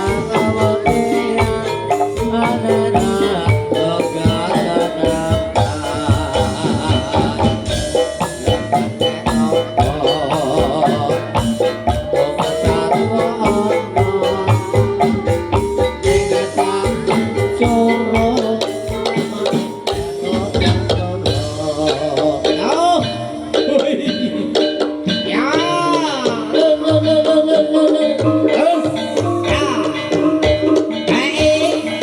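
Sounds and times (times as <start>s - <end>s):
drum and percussion strikes: 0.0s - 32.0s
pitched melody: 0.0s - 32.0s.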